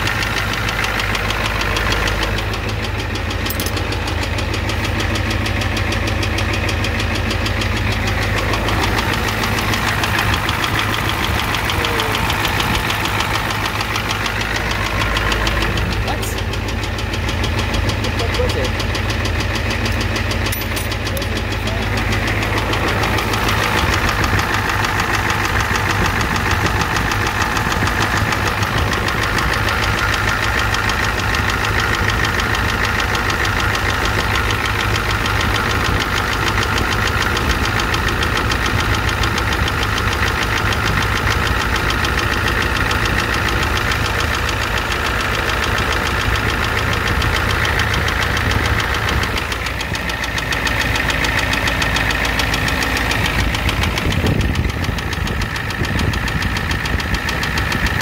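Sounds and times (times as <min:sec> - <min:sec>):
diesel engine clattering: 0:00.0 - 0:58.0.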